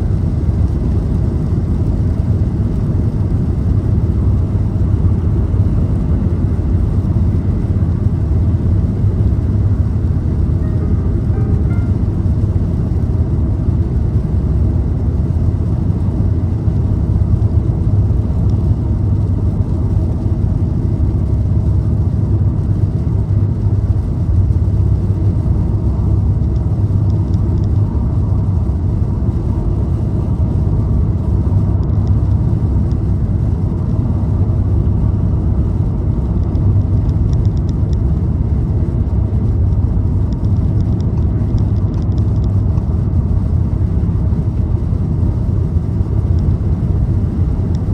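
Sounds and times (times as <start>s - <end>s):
car engine and tyre rumble: 0.0s - 47.9s.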